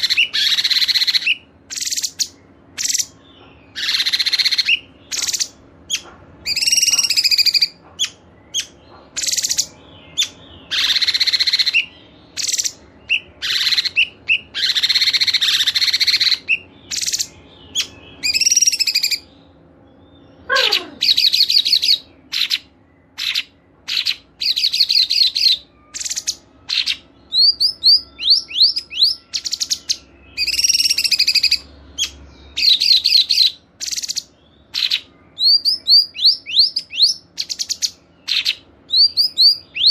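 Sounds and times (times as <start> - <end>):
sharp rising bird chirps: 0.0 - 39.9
songbirds chattering: 0.0 - 39.9.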